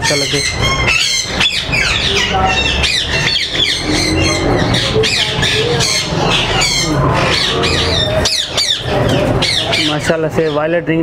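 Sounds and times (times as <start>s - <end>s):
parakeets squawking: 0.0s - 11.0s.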